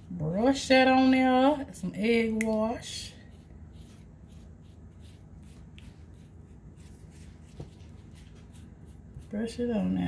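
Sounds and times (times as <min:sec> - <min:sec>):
pastry brush strokes: 0:00.0 - 0:10.0.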